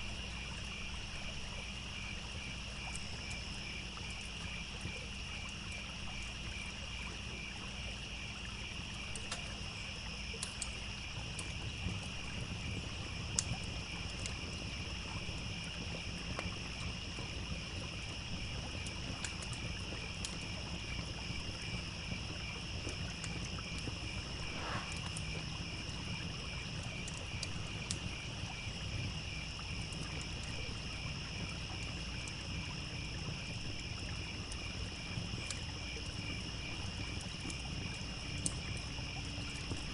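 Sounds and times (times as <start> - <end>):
campfire crackling: 0.0 - 39.9
crickets chirping: 0.0 - 39.9
stream trickling: 0.0 - 39.9.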